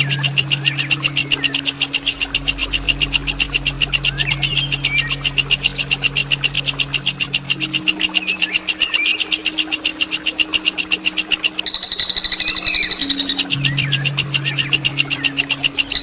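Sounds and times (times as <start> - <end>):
buzzy ringing bird note: 0.0 - 16.0
songbird rattling trill: 0.0 - 16.0.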